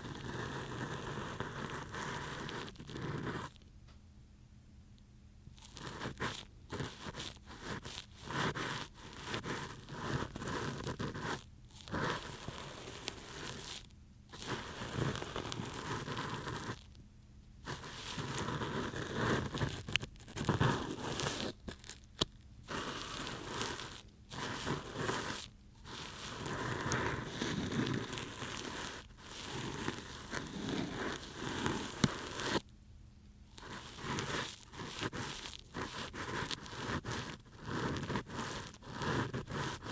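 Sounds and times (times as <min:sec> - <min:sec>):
ear pick scraping and rustling: 0:05.6 - 0:17.0, 0:17.6 - 0:32.7, 0:33.5 - 0:39.9.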